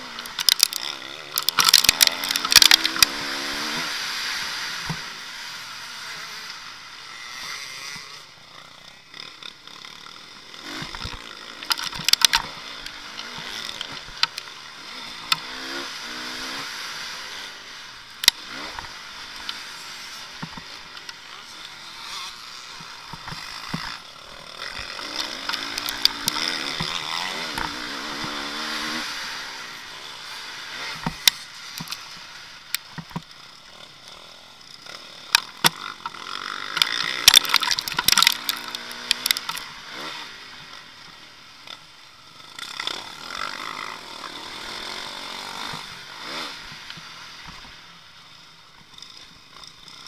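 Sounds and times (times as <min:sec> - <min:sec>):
motorbike engine revving: 0:00.0 - 0:47.8.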